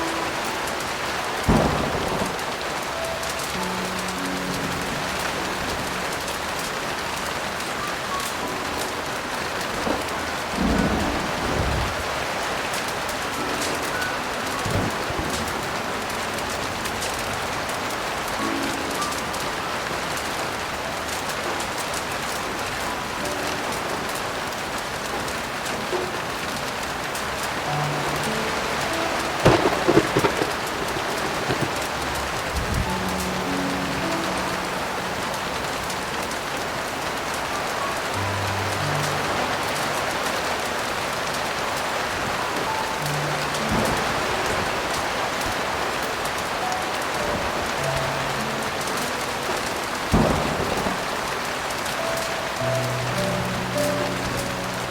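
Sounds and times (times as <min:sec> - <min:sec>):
heavy rain falling: 0:00.0 - 0:54.9
soft piano notes: 0:00.0 - 0:54.9.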